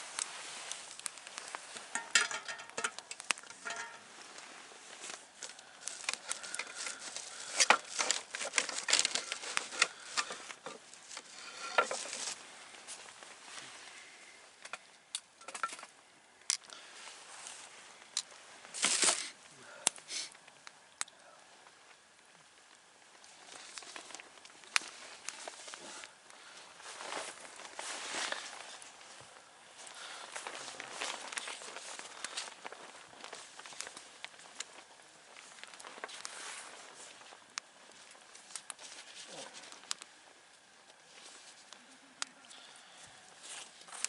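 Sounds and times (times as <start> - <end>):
campfire crackling: 0.0 - 44.0.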